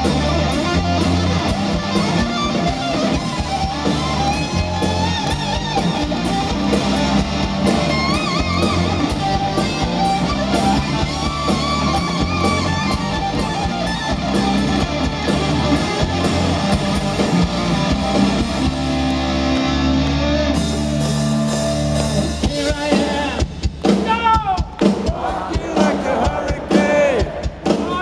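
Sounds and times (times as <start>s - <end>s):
distorted electric guitars: 0.0s - 24.1s
bass guitar: 0.0s - 28.0s
drum kit: 0.0s - 28.0s.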